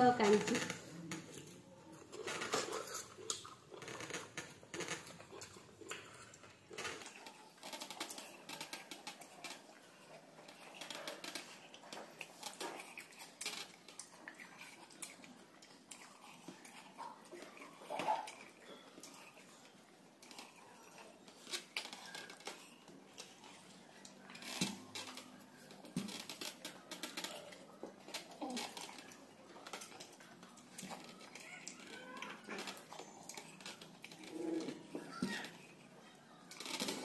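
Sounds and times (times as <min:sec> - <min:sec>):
chewing and mouth noises: 0:00.5 - 0:37.0.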